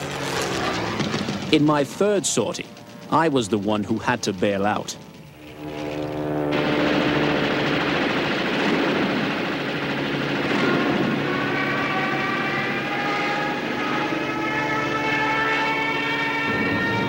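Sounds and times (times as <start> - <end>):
high rising whine: 0.0 - 17.0
propeller plane engine roar: 0.0 - 17.0.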